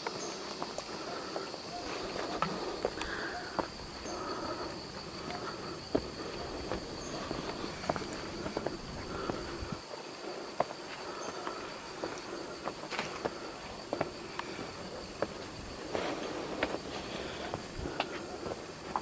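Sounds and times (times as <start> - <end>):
footsteps on stone steps: 0.0 - 19.0.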